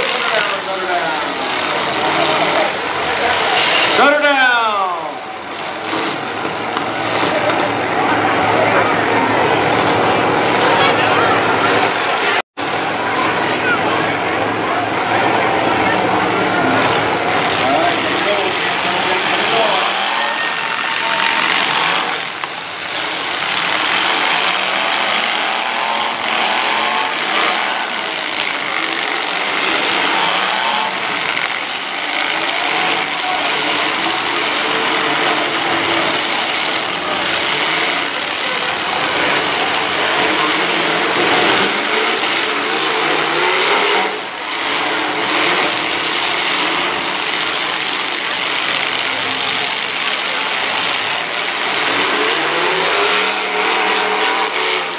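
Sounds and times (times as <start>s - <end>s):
car engines revving: 0.0s - 54.9s.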